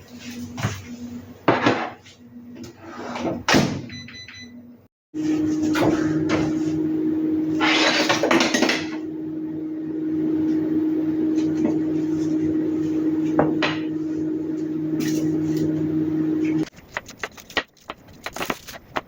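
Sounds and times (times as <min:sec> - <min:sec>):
appliance hum: 0:00.0 - 0:19.0.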